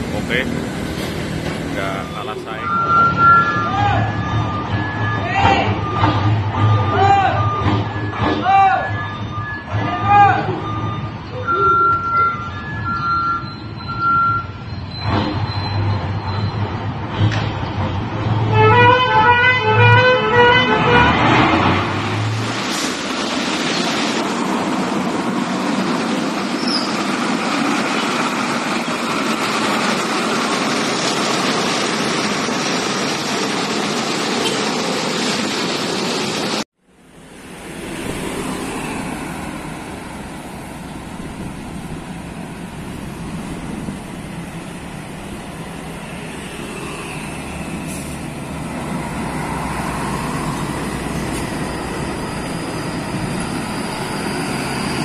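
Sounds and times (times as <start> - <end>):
highway traffic: 0.0 - 55.0.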